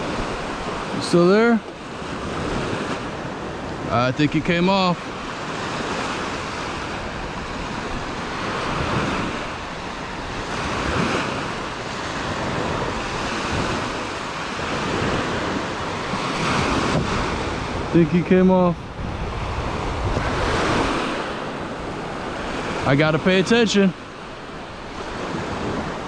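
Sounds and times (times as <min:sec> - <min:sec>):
surf washing up a beach: 0:00.0 - 0:26.0
wind buffeting microphone: 0:01.8 - 0:23.4.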